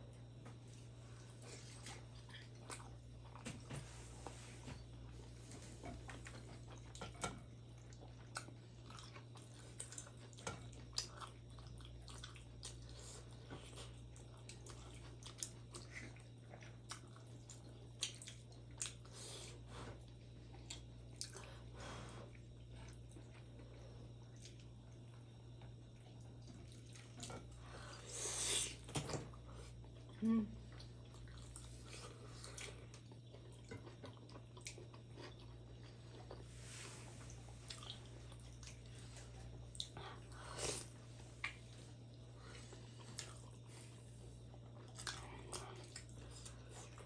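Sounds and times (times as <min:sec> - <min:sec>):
steady low hum: 0:00.0 - 0:47.0
chewing with wet mouth smacks: 0:00.5 - 0:03.6, 0:05.9 - 0:19.2, 0:20.0 - 0:21.7, 0:22.3 - 0:27.6, 0:28.9 - 0:36.5, 0:37.2 - 0:47.0.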